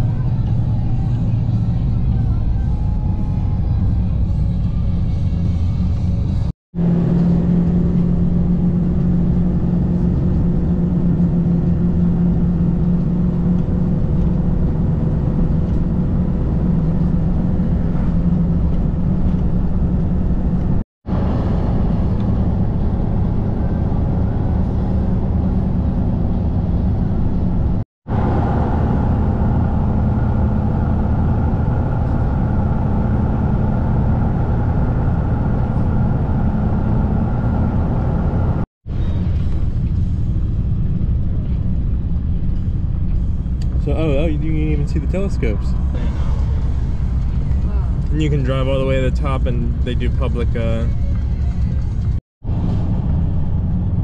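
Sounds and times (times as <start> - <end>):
road and engine noise in car cabin: 0.0 - 54.0.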